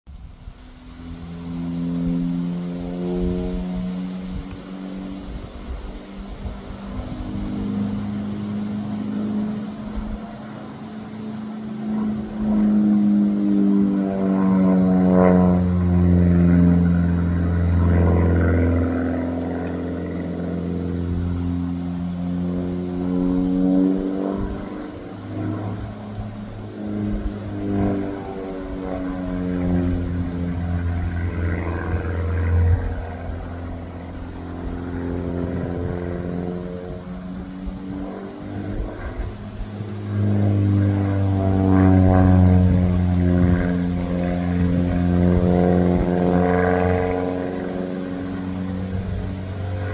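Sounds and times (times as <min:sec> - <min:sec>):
propeller plane engine droning: 0:00.0 - 0:49.9.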